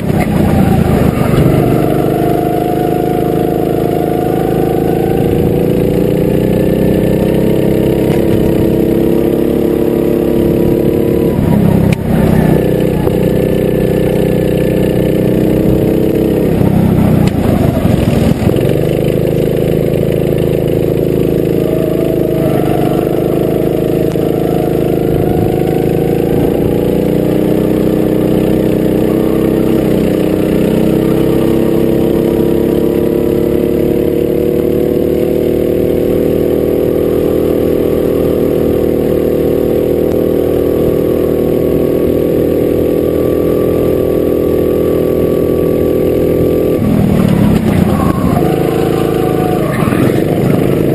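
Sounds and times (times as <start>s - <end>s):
go-kart engine running hard: 0.0s - 50.9s.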